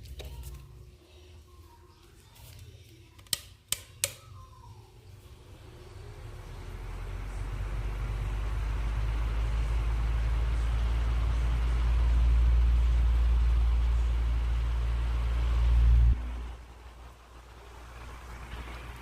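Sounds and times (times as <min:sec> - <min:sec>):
electric fan air rumble: 0:03.5 - 0:19.0.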